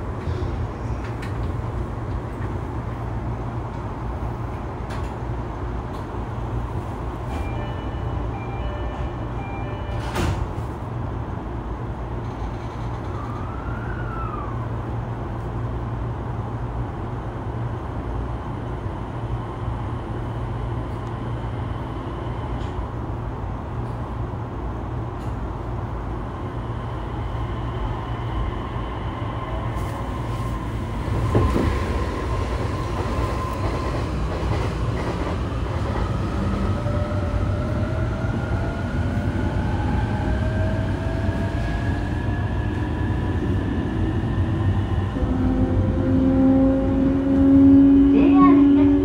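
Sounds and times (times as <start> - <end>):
train wheel and track rumble: 0.0 - 49.0.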